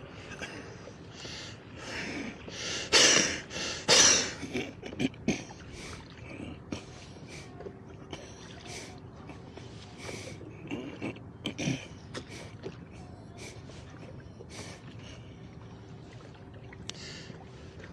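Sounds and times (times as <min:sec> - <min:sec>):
oars swishing in water: 0:00.0 - 0:17.9.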